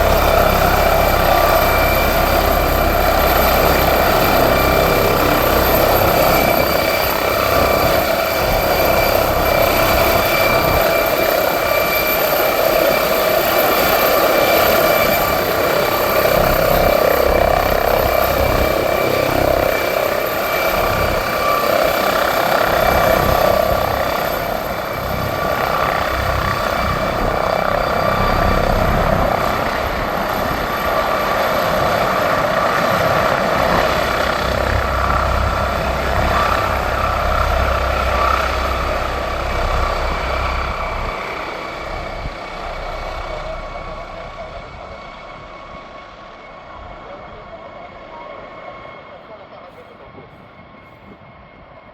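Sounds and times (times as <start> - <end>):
helicopter rotor throb: 0.0 - 51.9
helicopter turbine whine: 0.0 - 51.9.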